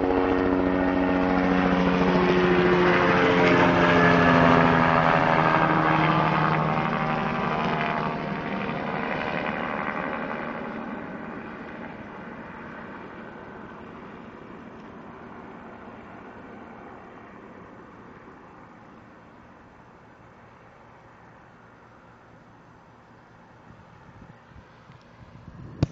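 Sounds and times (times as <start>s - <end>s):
helicopter rotor and engine: 0.0s - 24.6s.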